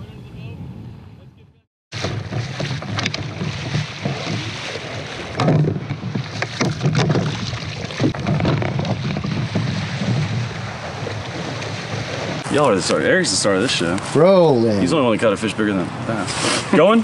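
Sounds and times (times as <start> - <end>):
wind on microphone: 0.0 - 14.1
surf: 1.9 - 17.0
water splashing: 1.9 - 17.0.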